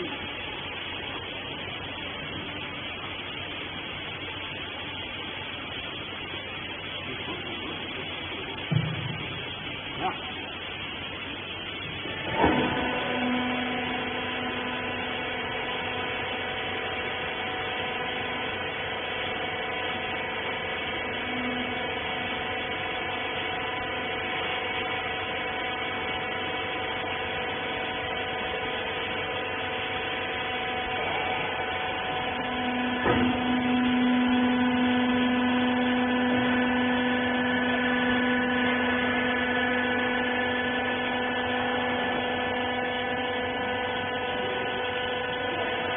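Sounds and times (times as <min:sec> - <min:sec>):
electric motor and hydraulic pump hum: 0:00.0 - 0:45.9.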